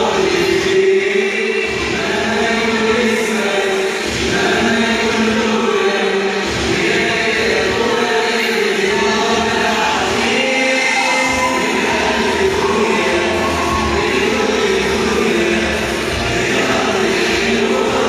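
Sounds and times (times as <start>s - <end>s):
music: 0.0s - 18.0s
group of voices chanting: 1.8s - 18.0s.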